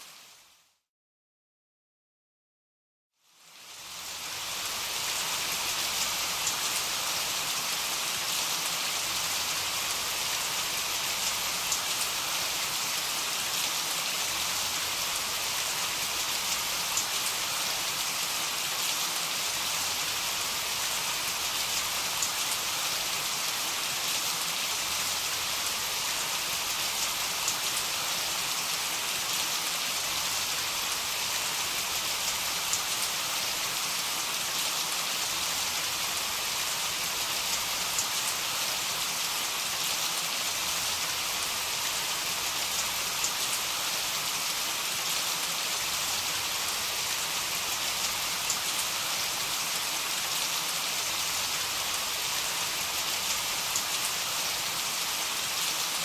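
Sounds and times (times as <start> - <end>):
heavy rain hissing: 3.6 - 56.0.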